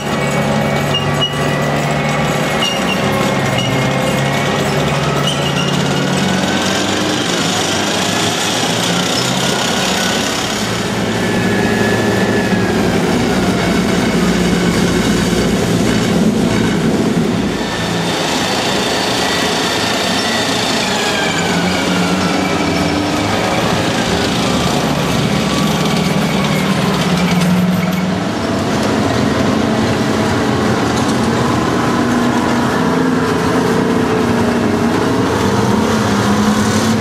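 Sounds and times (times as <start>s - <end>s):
diesel engine noise: 0.0s - 37.0s
steel tracks clattering: 0.0s - 37.0s
track links squealing: 0.0s - 37.0s.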